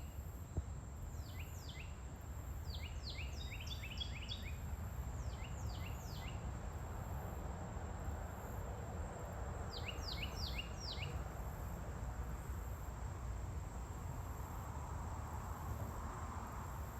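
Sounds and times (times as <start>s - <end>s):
high insect whine: 1.1s - 16.9s.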